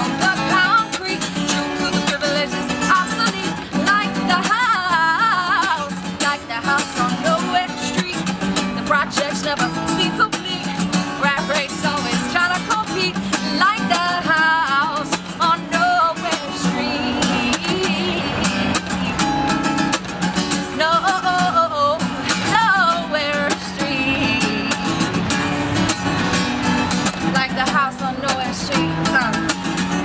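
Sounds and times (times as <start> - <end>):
woman singing: 0.0 - 19.0, 20.4 - 25.2, 27.2 - 30.0
strummed acoustic guitar: 0.0 - 30.0.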